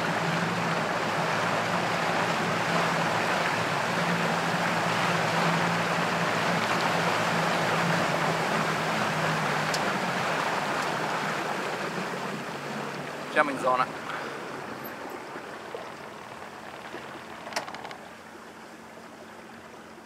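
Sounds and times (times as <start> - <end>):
motorboat engine hum: 0.0 - 20.0
water rushing: 0.0 - 20.0
wind: 0.0 - 20.0.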